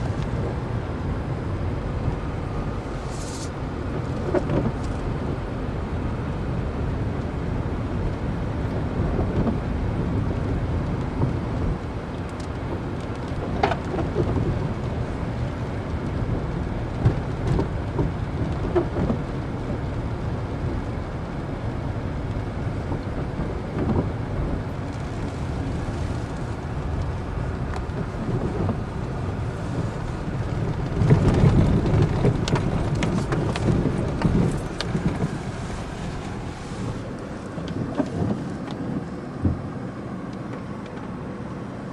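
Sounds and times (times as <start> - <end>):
road and wind noise: 0.0 - 41.9.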